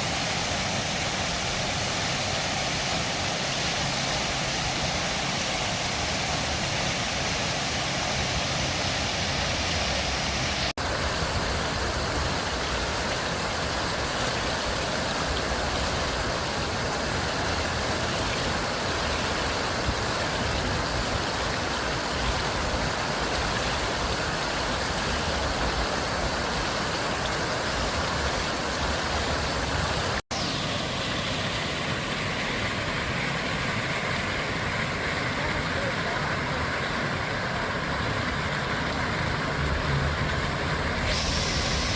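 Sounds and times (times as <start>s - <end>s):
fountain water splashing into basin: 0.0s - 41.9s.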